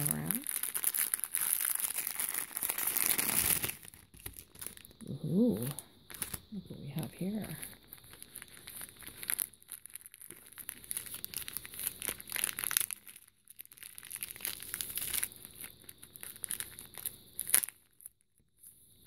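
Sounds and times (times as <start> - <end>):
plastic bags crinkling: 0.0 - 6.5, 7.1 - 18.1
sharp plastic crackle: 0.0 - 6.5, 7.2 - 18.7.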